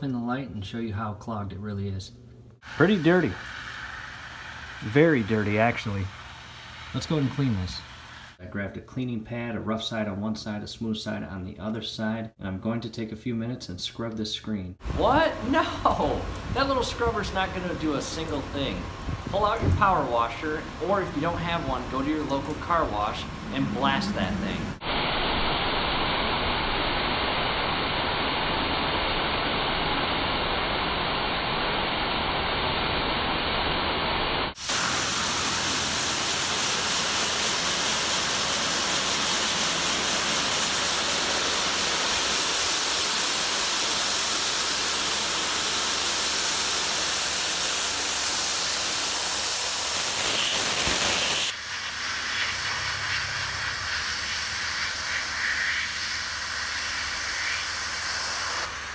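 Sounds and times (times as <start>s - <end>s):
pressure washer water jet hissing: 2.6s - 8.4s, 15.0s - 58.9s.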